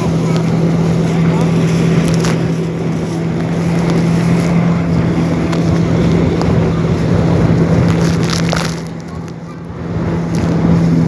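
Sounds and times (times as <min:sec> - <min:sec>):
motorboat engine running: 0:00.0 - 0:11.0
wind on microphone: 0:00.0 - 0:11.0.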